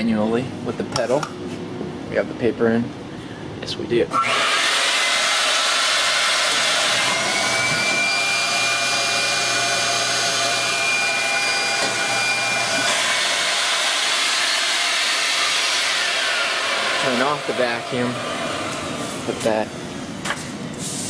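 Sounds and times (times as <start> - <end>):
blower rushing whine: 3.6 - 21.0.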